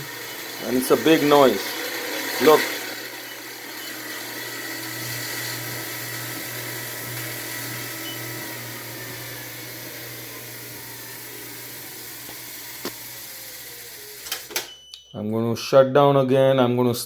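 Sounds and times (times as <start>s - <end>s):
treadmill motor hum and whine: 0.0s - 14.8s.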